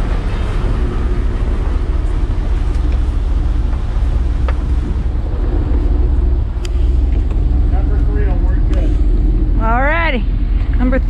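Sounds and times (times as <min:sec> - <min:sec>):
motorboat engine rumbling: 0:00.0 - 0:11.0
wind buffeting microphone: 0:00.0 - 0:11.0.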